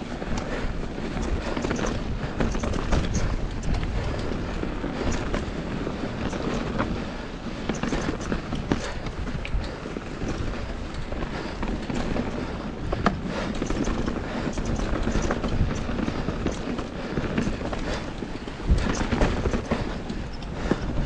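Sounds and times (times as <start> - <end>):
bike rattling over bumps: 0.0 - 21.0
wind rumble on microphone: 0.0 - 21.0.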